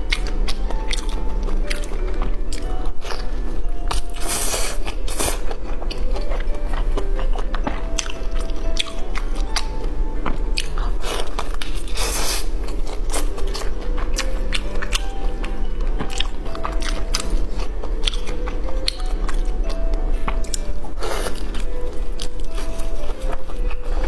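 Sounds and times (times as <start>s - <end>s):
crunchy bites and chewing: 0.0s - 19.8s
background music: 0.0s - 24.0s.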